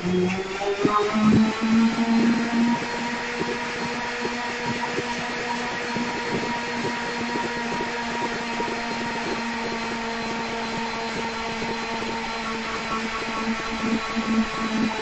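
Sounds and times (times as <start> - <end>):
bike trainer whirring: 0.0 - 15.0.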